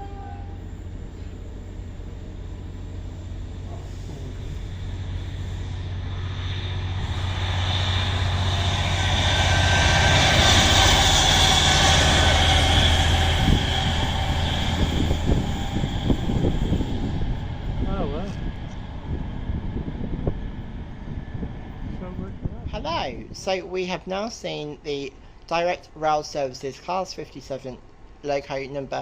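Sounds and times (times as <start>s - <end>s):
diesel locomotive engine passing: 0.0s - 25.3s.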